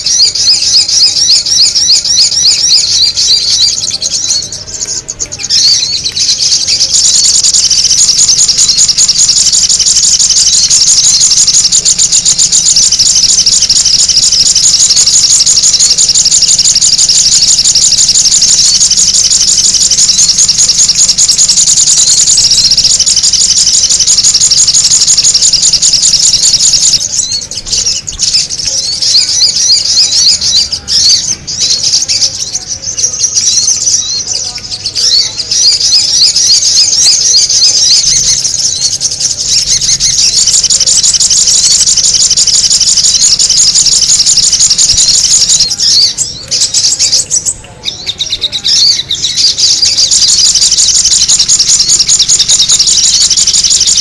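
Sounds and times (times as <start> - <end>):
bird rapid high chirps: 0.0 - 54.0.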